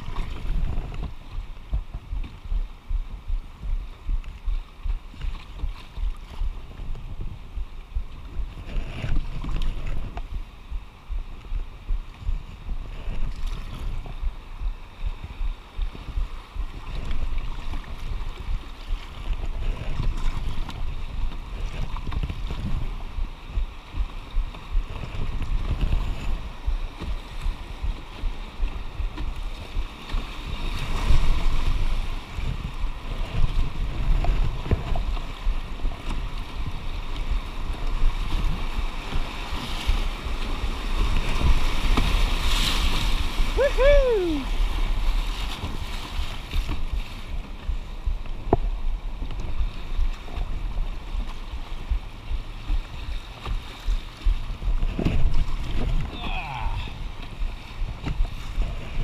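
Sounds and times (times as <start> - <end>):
rushing river water: 0.0 - 59.0
wind buffeting microphone: 0.0 - 59.0.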